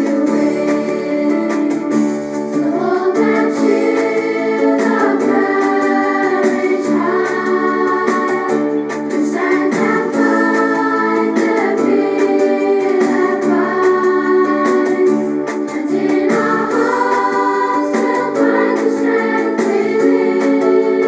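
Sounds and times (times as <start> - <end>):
sustained instrumental backing: 0.0 - 21.0
voices singing a melody: 0.0 - 21.0.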